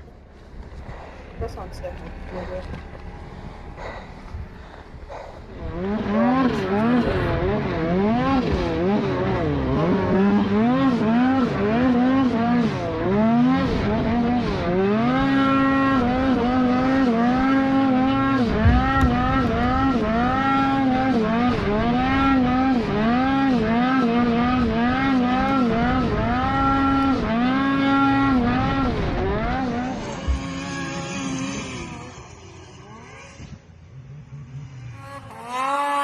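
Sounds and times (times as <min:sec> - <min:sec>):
snowmobile engine revving: 0:00.8 - 0:36.0.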